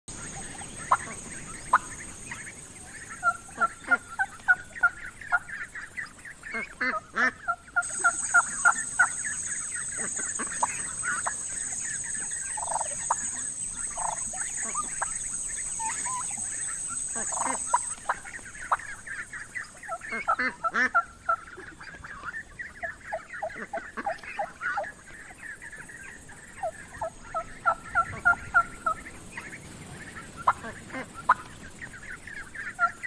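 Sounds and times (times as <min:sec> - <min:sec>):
turkey clucking: 0:00.1 - 0:33.0.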